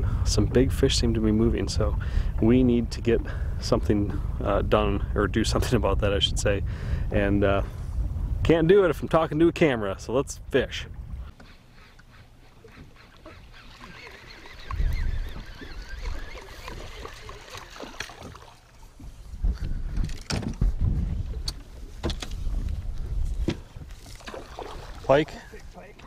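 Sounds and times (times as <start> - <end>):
wind rumbling on microphone: 0.0 - 11.5, 12.8 - 26.0.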